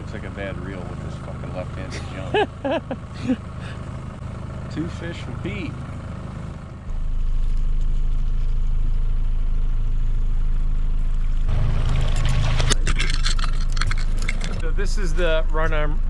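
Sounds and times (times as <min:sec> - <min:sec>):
outboard motor running: 0:00.0 - 0:08.6, 0:11.4 - 0:15.9.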